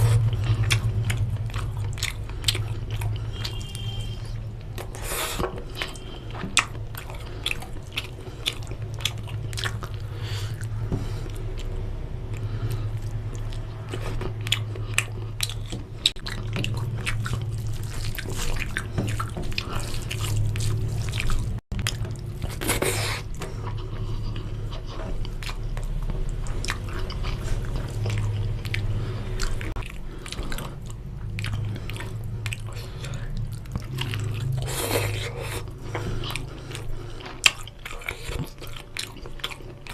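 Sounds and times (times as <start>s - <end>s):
chewing and biting food: 0.0s - 39.9s
steady low hum: 0.0s - 39.9s.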